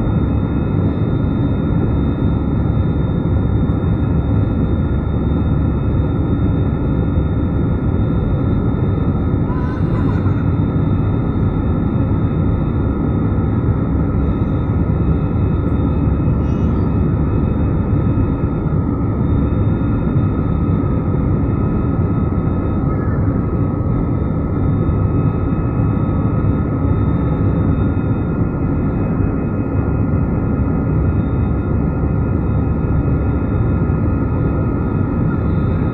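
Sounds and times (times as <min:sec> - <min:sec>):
faint high engine whine: 0:00.0 - 0:35.9
jet cabin engine rumble: 0:00.0 - 0:35.9.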